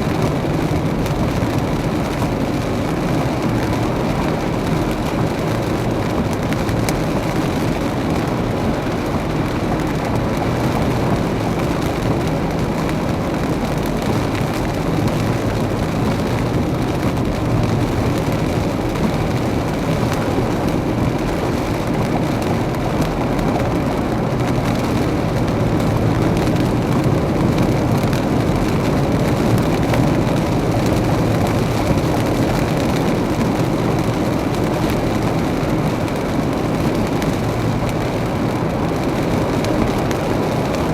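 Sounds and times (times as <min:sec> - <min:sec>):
heavy rain: 0:00.0 - 0:40.9
road and tyre noise: 0:00.0 - 0:40.9.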